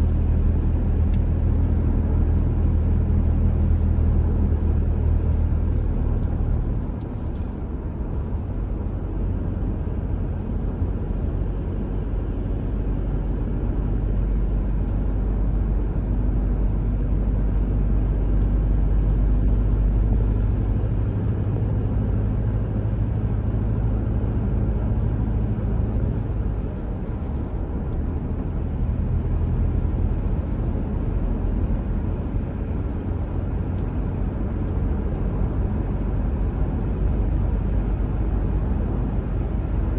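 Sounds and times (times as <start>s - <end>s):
car engine drone: 0.0s - 39.9s
road rumble: 0.0s - 39.9s.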